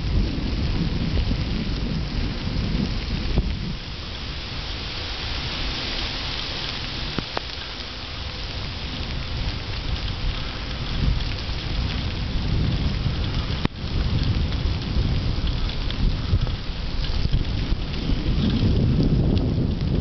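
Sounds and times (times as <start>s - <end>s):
wet road hiss: 0.0s - 20.0s
wind buffeting microphone: 0.0s - 20.0s.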